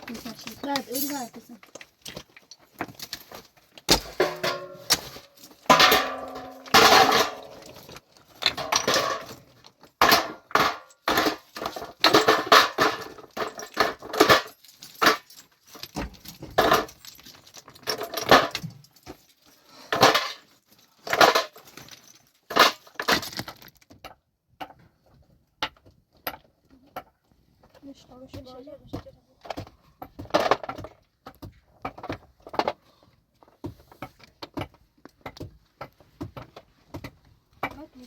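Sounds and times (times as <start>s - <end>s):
hard objects clattering: 0.0s - 38.0s.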